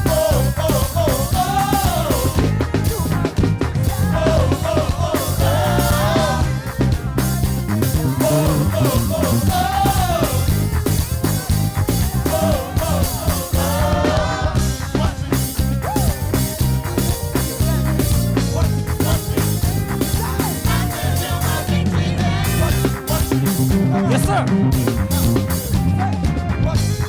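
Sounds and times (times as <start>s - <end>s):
bass guitar: 0.0s - 27.0s
drum kit: 0.0s - 27.0s
live praise band playing: 0.0s - 27.0s.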